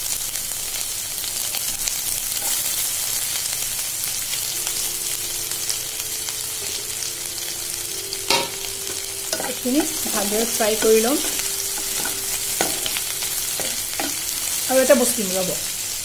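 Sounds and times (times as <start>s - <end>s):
onions and garlic sizzling in oil: 0.0s - 16.0s.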